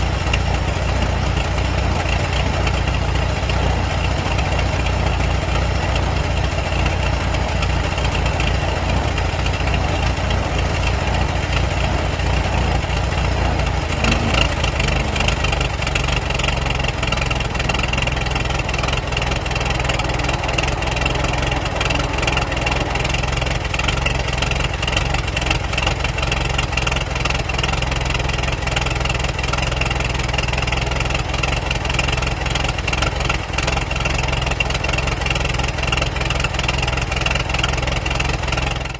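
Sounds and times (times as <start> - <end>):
old car engine idling: 0.0 - 38.9.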